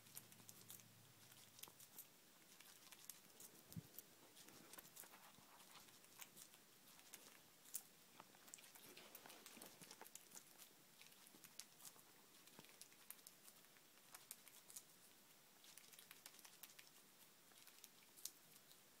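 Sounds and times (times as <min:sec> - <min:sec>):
squirrel nibbling wet clicks: 0:00.0 - 0:18.9.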